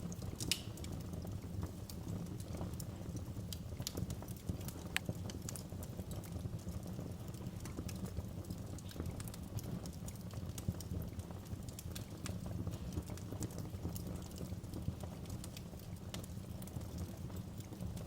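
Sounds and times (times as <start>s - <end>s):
low rumble of flame: 0.0s - 18.0s
wood fire crackling: 0.0s - 18.0s.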